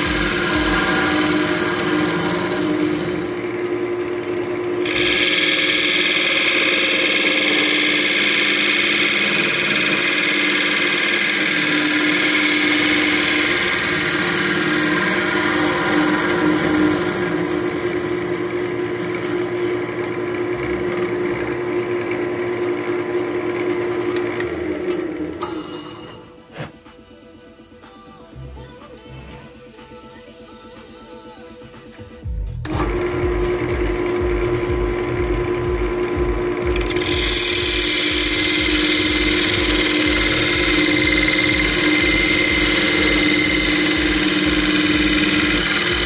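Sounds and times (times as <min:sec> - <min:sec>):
lathe motor hum: 0:00.0 - 0:26.5, 0:32.6 - 0:46.0
turning tool cutting wood: 0:00.0 - 0:26.7, 0:32.6 - 0:46.0.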